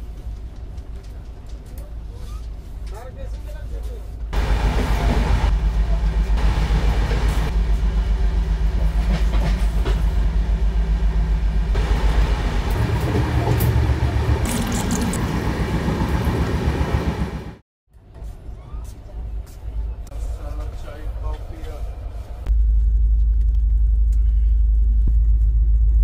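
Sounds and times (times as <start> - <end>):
train carriage rumbling and rattling: 0.0 - 26.0.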